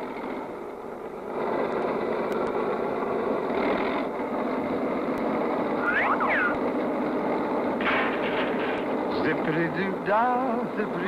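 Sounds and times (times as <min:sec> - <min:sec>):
cartoon tank engine rumbling: 0:00.0 - 0:11.0.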